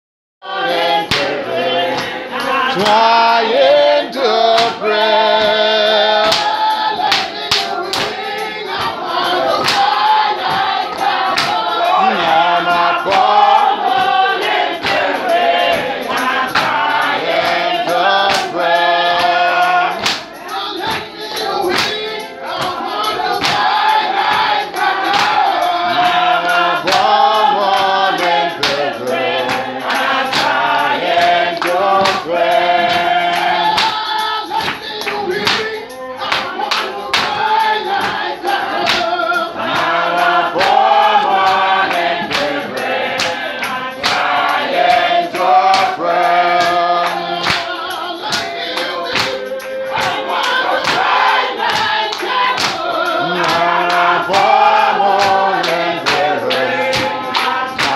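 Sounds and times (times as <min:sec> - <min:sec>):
choir and congregation singing hymn: 0:00.4 - 0:57.9
sharp percussive strikes: 0:00.5 - 0:57.9.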